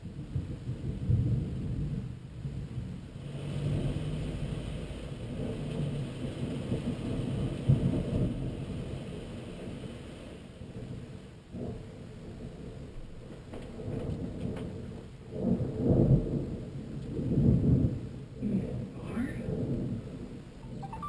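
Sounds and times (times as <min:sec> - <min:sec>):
thunder rumbling: 0:00.0 - 0:21.0.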